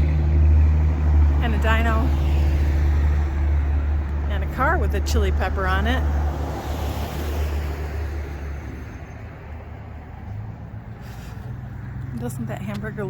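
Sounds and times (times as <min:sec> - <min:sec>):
motor vehicle rumble: 0:00.0 - 0:13.0
steady road noise: 0:00.0 - 0:13.0.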